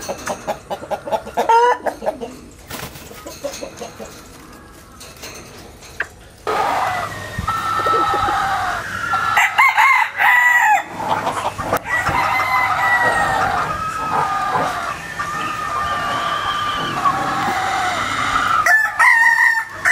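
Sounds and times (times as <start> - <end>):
roosters crowing: 0.0 - 2.5, 6.4 - 19.9.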